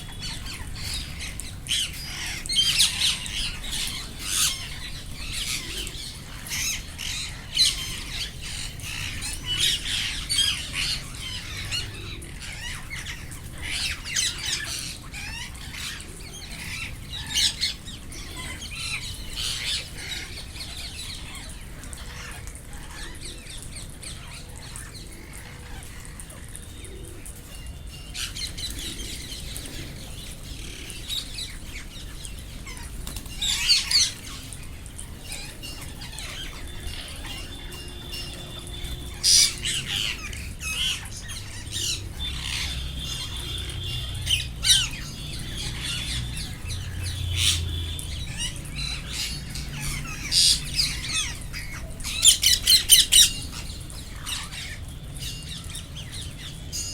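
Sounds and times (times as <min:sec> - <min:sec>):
parrots squawking: 0:00.0 - 0:23.4, 0:28.2 - 0:56.8.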